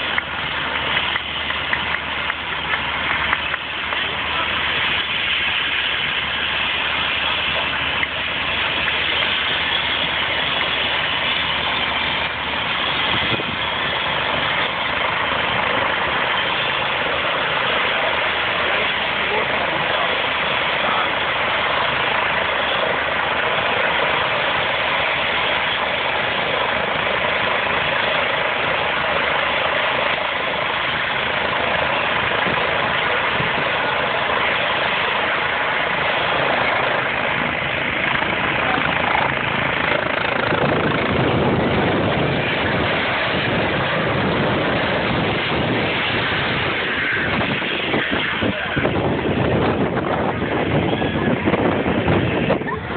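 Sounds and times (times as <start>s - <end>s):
helicopter turbines and rotor running: 0.0s - 52.9s
rotor wash gusting on microphone: 0.0s - 52.9s.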